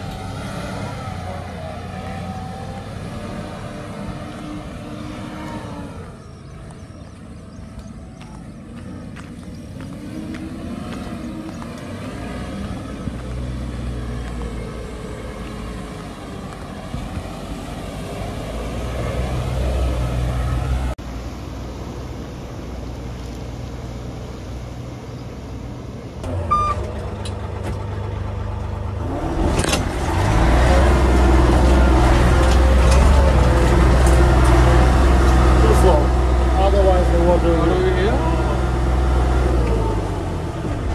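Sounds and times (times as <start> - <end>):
vehicle engine running: 0.0 - 18.4, 19.3 - 40.9.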